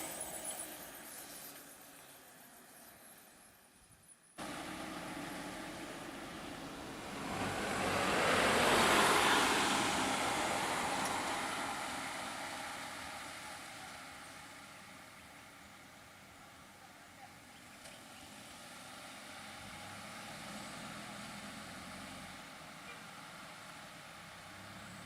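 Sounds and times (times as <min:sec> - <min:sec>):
road vehicle passing by: 0:04.4 - 0:25.0.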